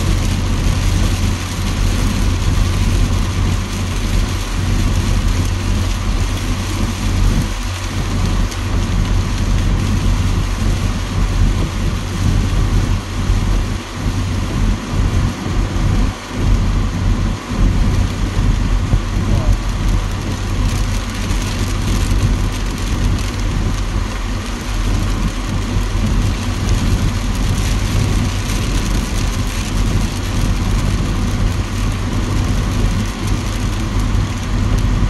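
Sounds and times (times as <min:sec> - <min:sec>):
low car rumble: 0:00.0 - 0:35.0
rain and tyre spray rush: 0:00.0 - 0:35.0.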